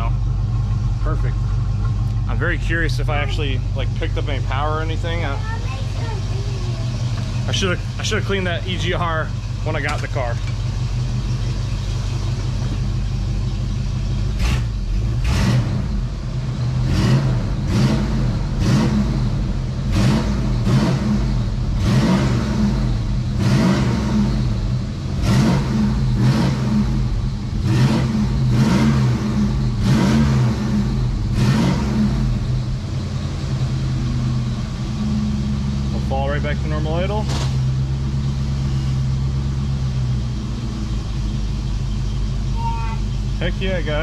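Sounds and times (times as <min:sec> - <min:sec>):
car engine revving from idle: 0:00.0 - 0:42.5.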